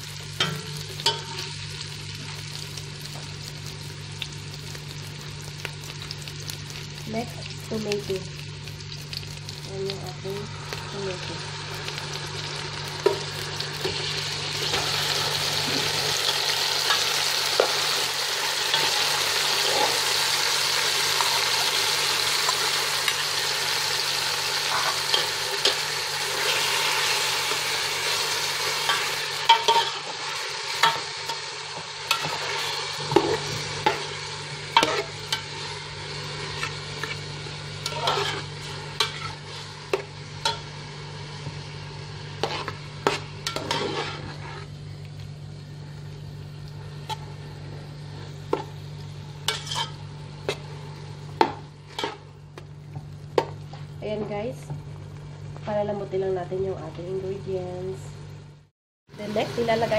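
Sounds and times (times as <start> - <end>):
tomatoes sizzling in hot oil: 0.0 - 54.6, 59.1 - 59.9.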